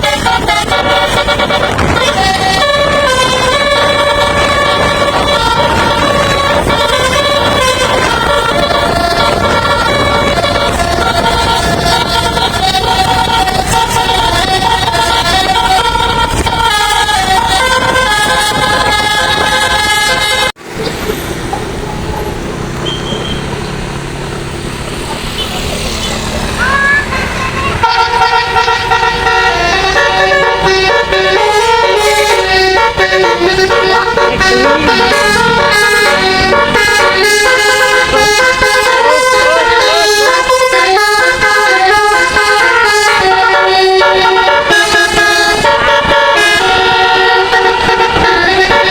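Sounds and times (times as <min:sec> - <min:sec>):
musical air horn tune: 0:00.0 - 0:20.6, 0:27.8 - 0:48.9.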